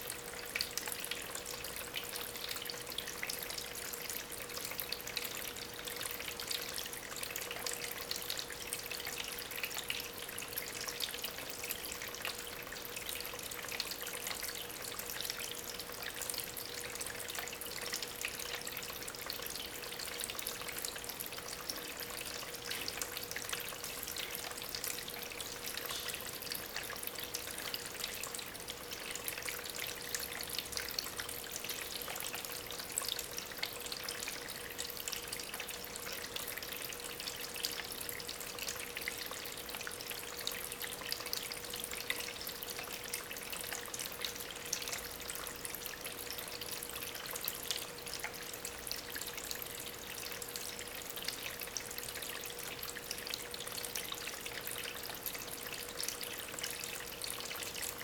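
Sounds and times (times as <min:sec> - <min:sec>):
aquarium pump hum: 0:00.0 - 0:58.0
water trickling over stones: 0:00.0 - 0:58.0.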